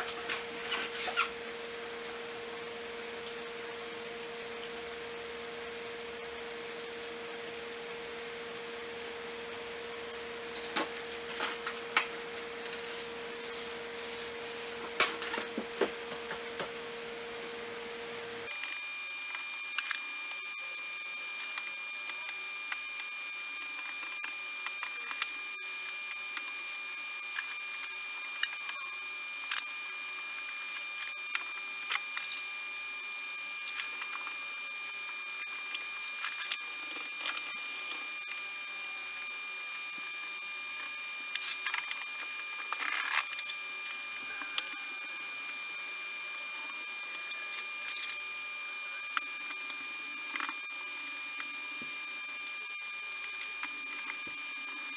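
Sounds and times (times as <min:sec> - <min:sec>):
faint high whine: 0:00.0 - 0:54.9.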